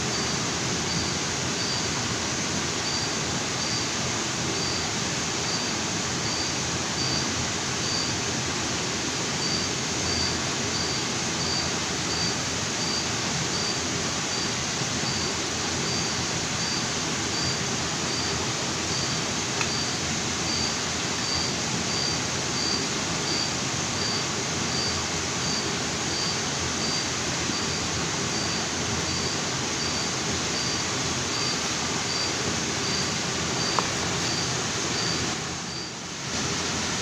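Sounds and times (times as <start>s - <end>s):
waterfall and stream rushing: 0.0s - 37.0s.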